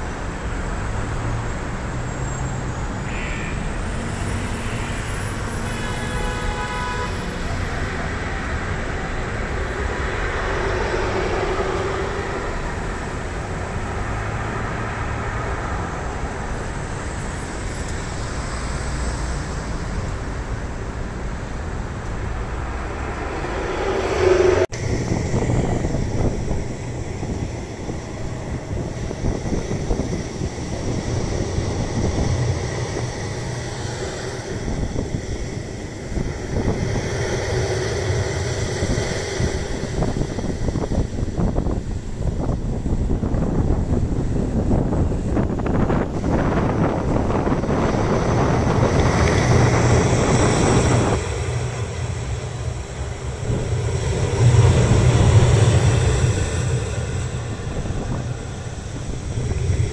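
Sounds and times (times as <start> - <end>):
passing road vehicles: 0.0 - 59.9
wind buffeting microphone: 0.0 - 59.9
vehicle passing close: 7.0 - 59.9.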